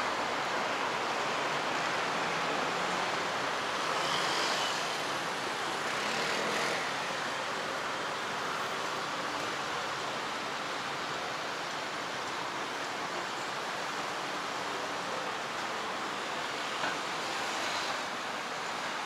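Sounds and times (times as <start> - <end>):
cars and scooters passing: 0.3 - 11.9, 14.1 - 19.0.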